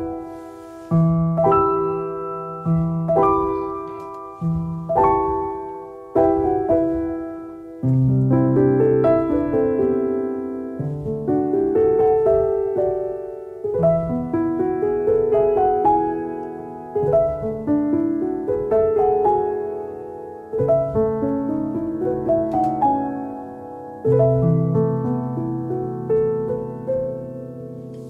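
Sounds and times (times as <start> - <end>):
gentle piano melody: 0.0 - 28.0.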